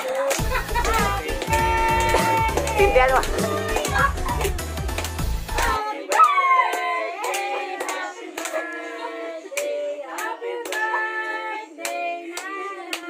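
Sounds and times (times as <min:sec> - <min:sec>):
hand claps: 0:00.0 - 0:08.8, 0:09.5 - 0:11.0, 0:11.8 - 0:13.0
people singing birthday song: 0:00.0 - 0:13.0.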